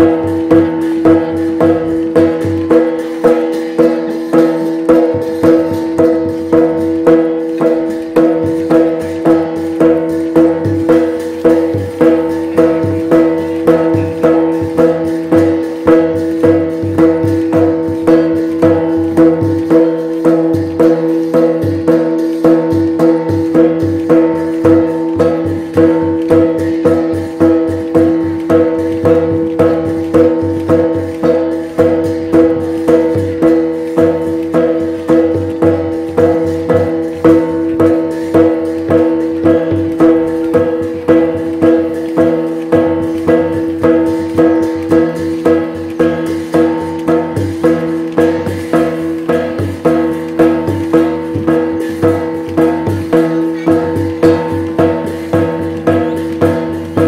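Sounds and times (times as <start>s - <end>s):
steady drum beat: 0.0s - 57.0s.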